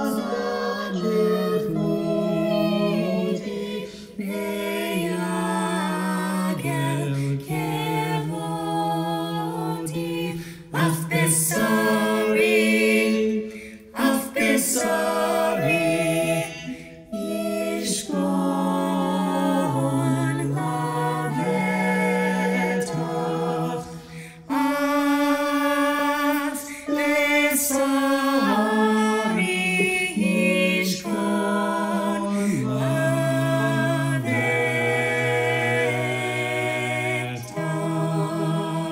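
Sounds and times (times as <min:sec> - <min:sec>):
group singing a cappella: 0:00.0 - 0:38.9.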